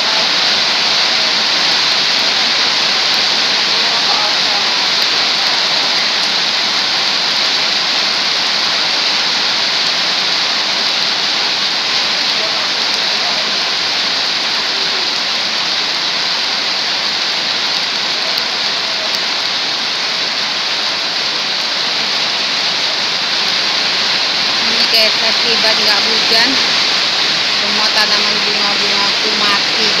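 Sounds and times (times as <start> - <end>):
heavy rain on wet road: 0.0 - 30.0.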